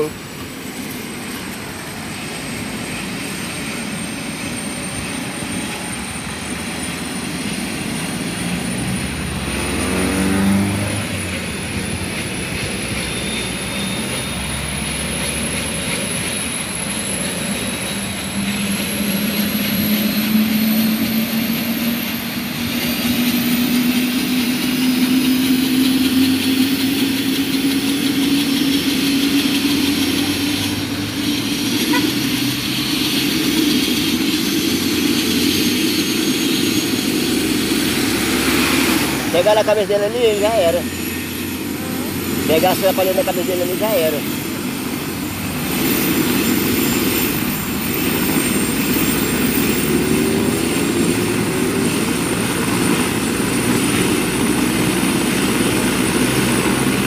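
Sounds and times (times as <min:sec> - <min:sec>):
helicopter rotor: 0:00.0 - 0:57.0
helicopter turbine whine: 0:00.0 - 0:57.0.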